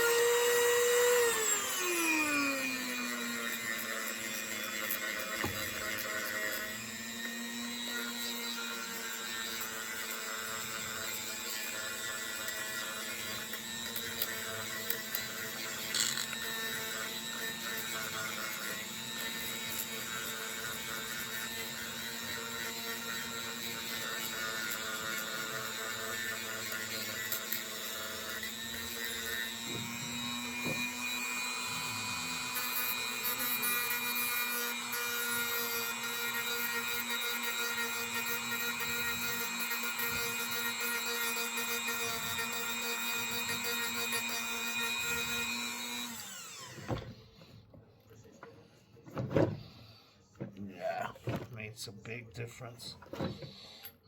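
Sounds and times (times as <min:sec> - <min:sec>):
rotary tool grinding rust: 0:00.0 - 0:47.4.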